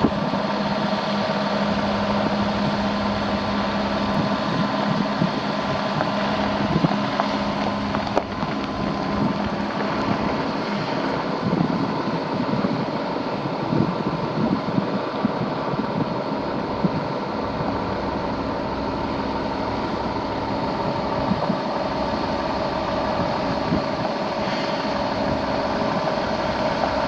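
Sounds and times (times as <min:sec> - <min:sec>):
truck engine idling: 0:00.0 - 0:27.0
wind noise on microphone: 0:00.0 - 0:27.0.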